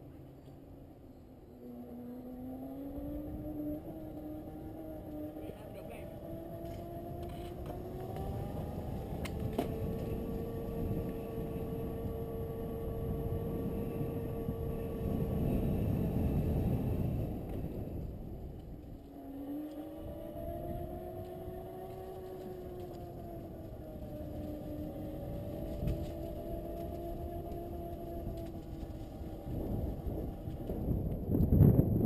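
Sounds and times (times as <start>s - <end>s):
small vehicle motor whining: 0.0s - 32.0s
steady low rumble: 2.0s - 32.0s.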